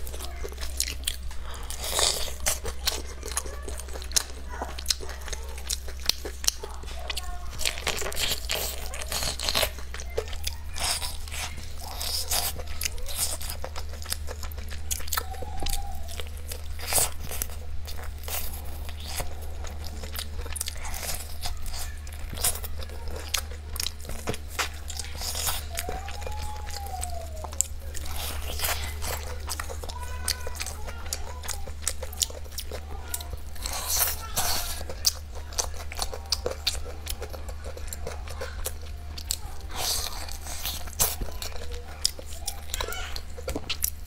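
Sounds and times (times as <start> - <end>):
crunching fried chicken: 0.0 - 44.0.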